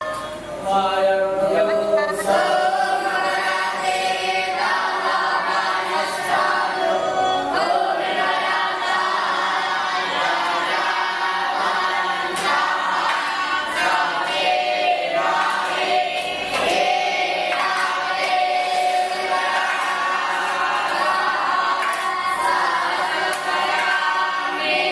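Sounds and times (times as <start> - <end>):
voices chanting in unison: 0.6 - 24.9.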